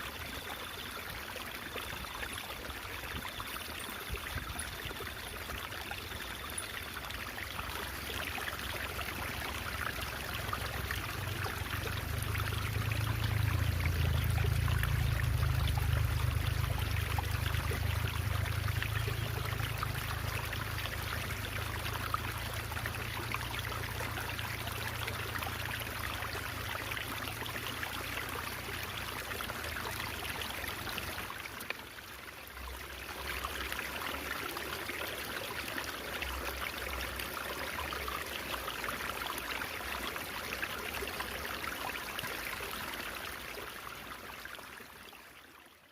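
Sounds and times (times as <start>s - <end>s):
stream water babbling: 0.0s - 45.9s.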